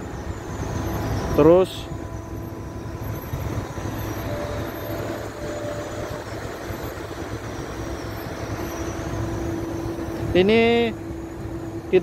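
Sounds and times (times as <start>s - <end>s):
constant rushing noise: 0.0s - 12.0s
ship machinery humming: 0.0s - 12.0s.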